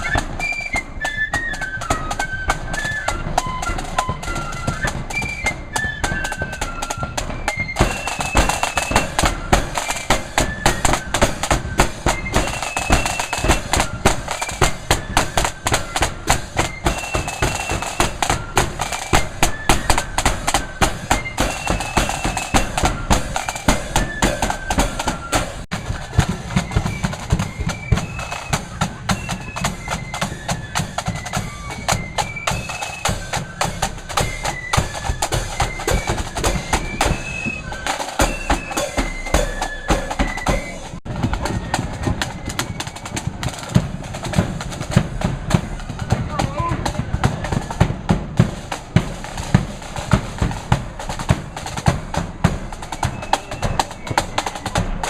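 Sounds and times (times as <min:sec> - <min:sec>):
flutes playing high melody: 0:00.0 - 0:55.0
snare and bass drums: 0:00.0 - 0:55.0.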